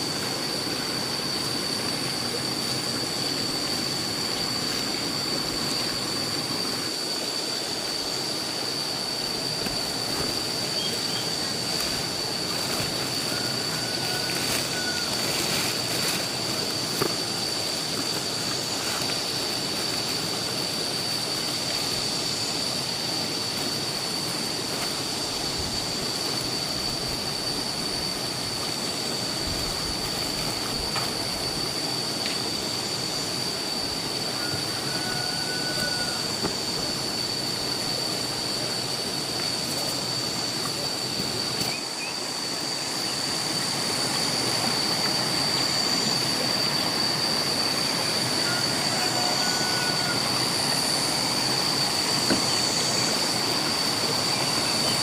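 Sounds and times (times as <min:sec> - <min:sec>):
constant hiss: 0:00.0 - 0:55.0
high-pitched whine: 0:00.0 - 0:55.0.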